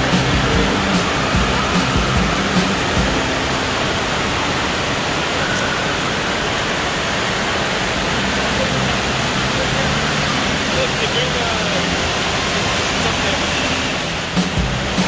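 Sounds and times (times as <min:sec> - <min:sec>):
crowd noise: 0:00.0 - 0:15.0
water splashing: 0:00.0 - 0:15.0.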